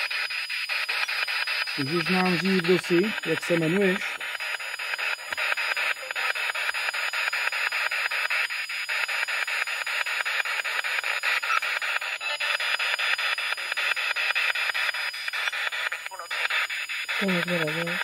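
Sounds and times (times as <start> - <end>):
radio static hiss: 0.0 - 18.0
rapid scanner clicks: 0.0 - 18.0.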